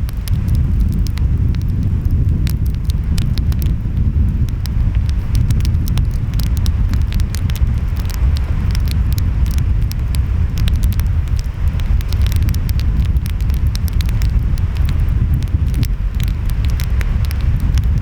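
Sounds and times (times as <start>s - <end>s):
wind: 0.0s - 18.0s
wood fire crackling: 0.0s - 18.0s.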